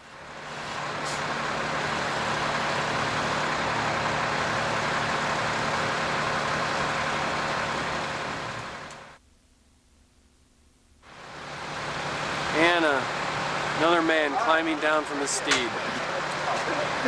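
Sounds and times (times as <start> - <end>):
diesel machine engine running: 0.0 - 9.2, 11.0 - 17.0.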